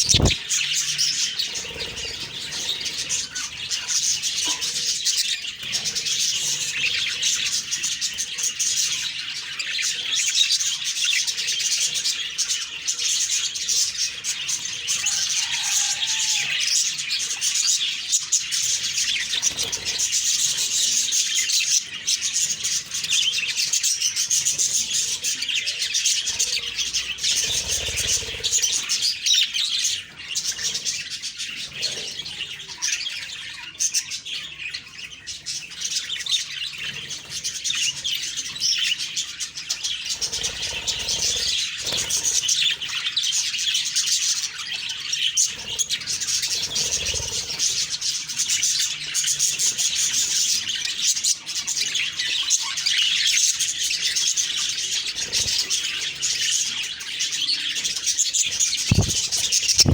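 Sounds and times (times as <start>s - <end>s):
budgerigars chirping and chattering: 0.0s - 59.9s.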